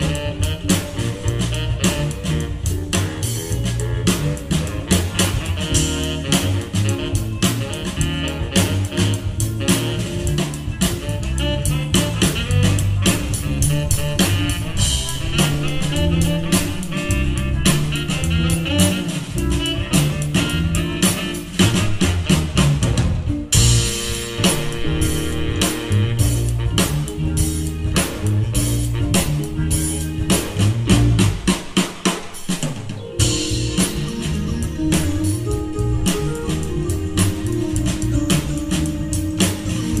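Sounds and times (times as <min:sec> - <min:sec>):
jazz-funk band playing: 0:00.0 - 0:40.0.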